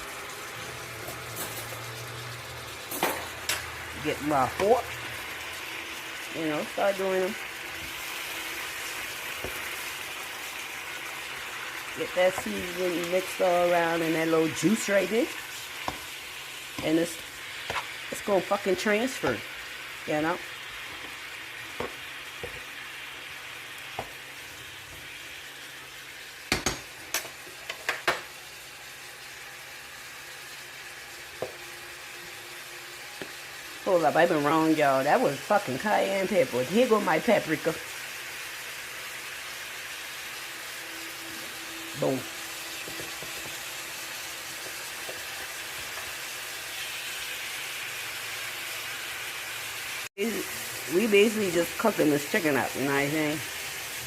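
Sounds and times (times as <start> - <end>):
chicken sizzling in a frying pan: 0.0 - 54.0.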